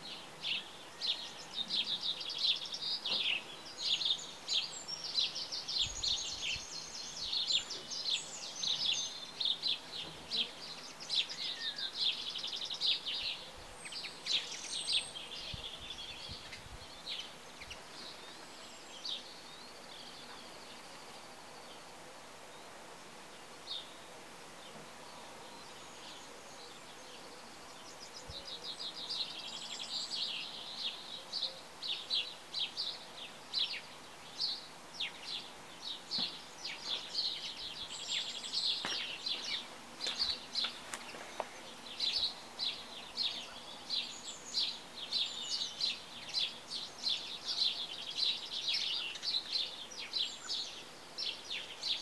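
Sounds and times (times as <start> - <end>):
faint steady hiss: 0.0 - 52.0
small birds chirping: 0.0 - 52.0.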